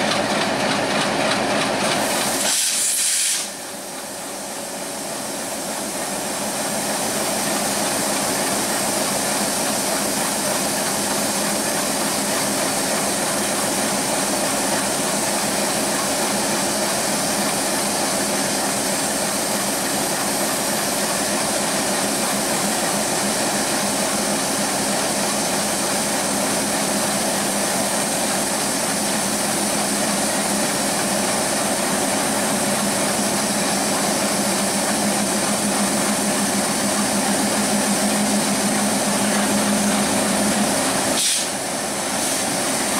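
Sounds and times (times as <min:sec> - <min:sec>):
diesel locomotive engine hum: 0:00.0 - 0:42.9.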